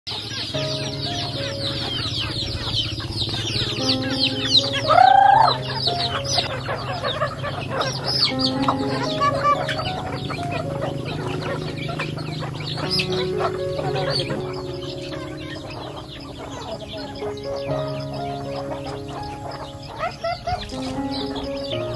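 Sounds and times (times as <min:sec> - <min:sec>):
chicks peeping: 0:00.1 - 0:21.9
drawn-out bird call: 0:00.1 - 0:21.9
hens clucking: 0:00.1 - 0:21.9
soft background music: 0:00.1 - 0:21.9.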